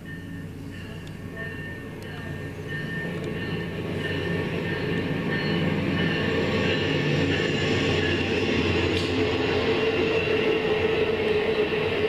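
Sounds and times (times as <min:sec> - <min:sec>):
passenger train rolling past: 0:00.0 - 0:12.0.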